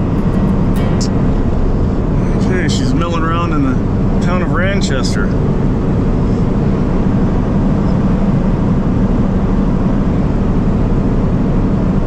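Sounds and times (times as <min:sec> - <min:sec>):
vehicle engine and tyre noise: 0:00.0 - 0:12.0.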